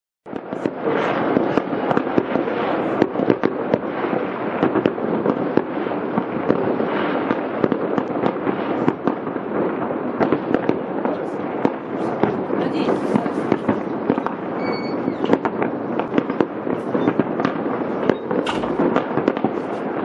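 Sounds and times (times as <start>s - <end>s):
fireworks crackling and banging: 0.2s - 20.0s.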